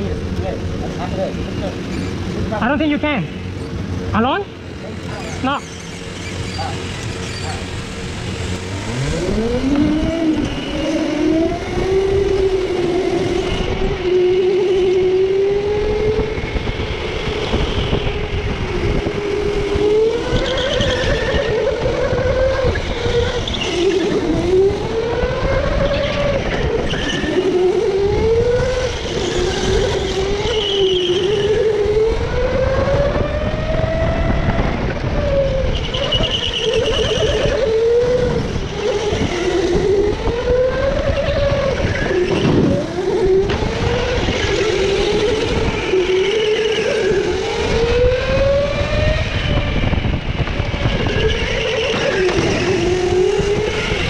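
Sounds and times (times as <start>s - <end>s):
go-kart motor revving: 0.0s - 54.0s
tire squeals: 0.0s - 54.0s.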